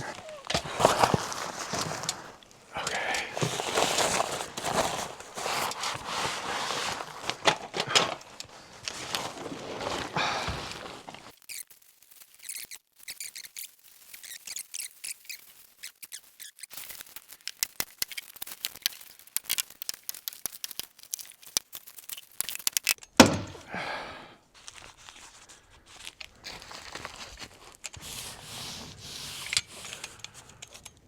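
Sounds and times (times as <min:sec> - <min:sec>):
plastic sheeting crinkling: 0:00.0 - 0:23.0, 0:24.5 - 0:30.1.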